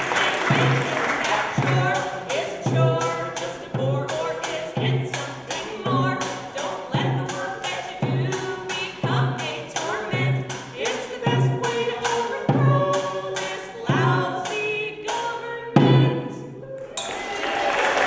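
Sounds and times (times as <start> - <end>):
voices singing together: 0.0 - 16.6.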